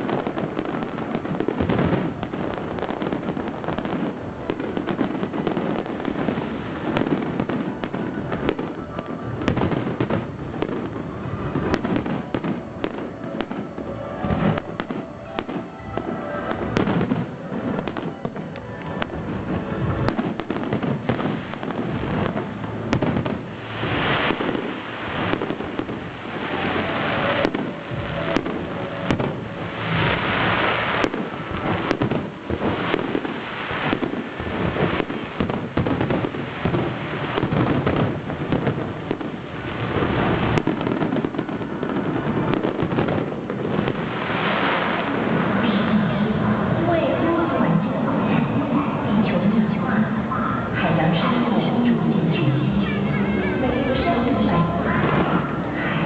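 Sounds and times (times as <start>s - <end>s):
fireworks booms and bangs: 0.0s - 56.0s
fireworks hissing: 0.0s - 56.0s.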